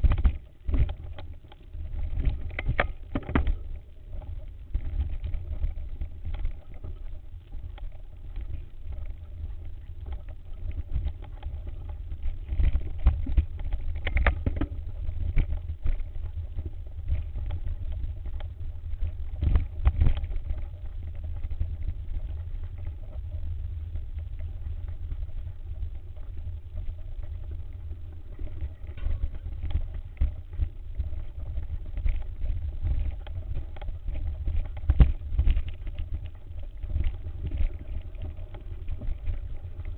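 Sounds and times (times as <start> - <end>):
bike rumble and wind: 0.0 - 39.9
faint steady hum: 0.0 - 39.9.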